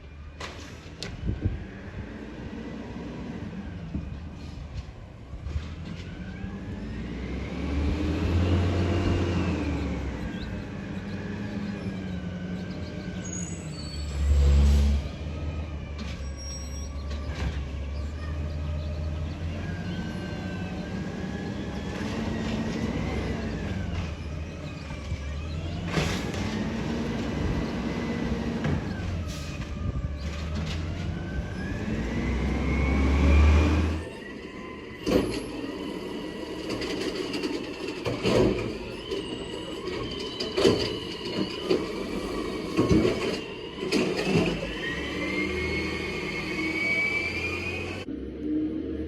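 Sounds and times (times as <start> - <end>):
garbage truck engine revving: 5.5 - 49.0.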